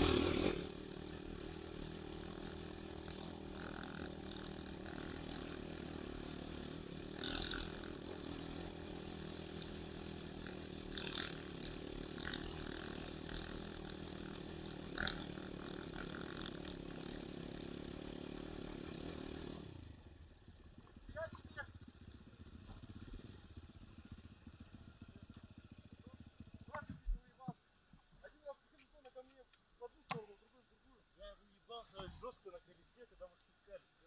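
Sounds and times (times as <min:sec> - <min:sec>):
motorcycle engine idling: 0:00.0 - 0:27.8.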